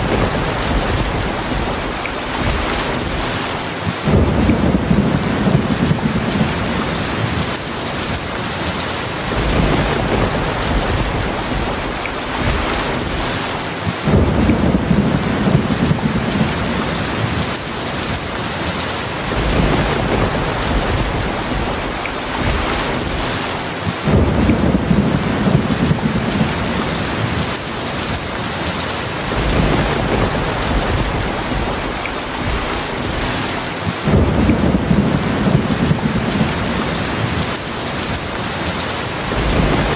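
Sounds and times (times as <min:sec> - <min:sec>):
rolling thunder: 0:00.0 - 0:08.2, 0:09.2 - 0:18.2, 0:19.2 - 0:28.2, 0:29.2 - 0:39.9
heavy rain: 0:00.0 - 0:39.9.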